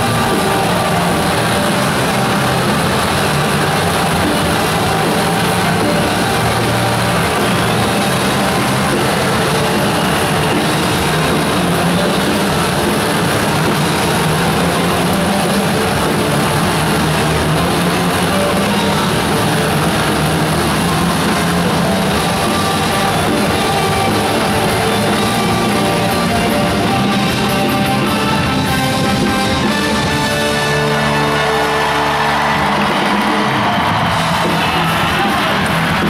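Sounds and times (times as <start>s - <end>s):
motorcycle engines running: 0.0s - 30.3s
loud rock music: 0.0s - 36.0s.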